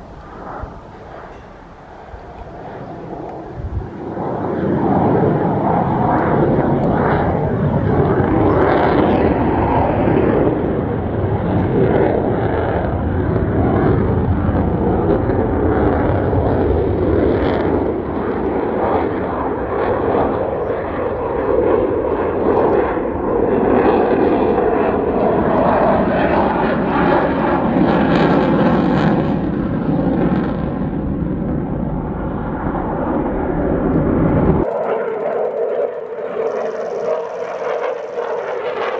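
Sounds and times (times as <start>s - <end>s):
fighter jet engine rumble: 0.0s - 38.9s.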